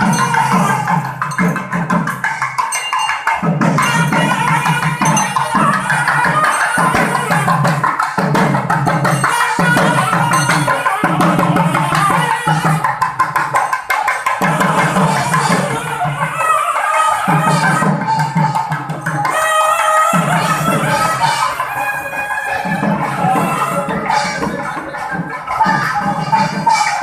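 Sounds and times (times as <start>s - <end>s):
music with fast drumming: 0.0s - 27.0s.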